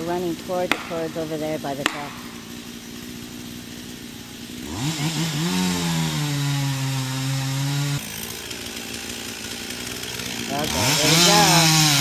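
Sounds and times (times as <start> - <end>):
chainsaw revving: 0.0 - 12.0.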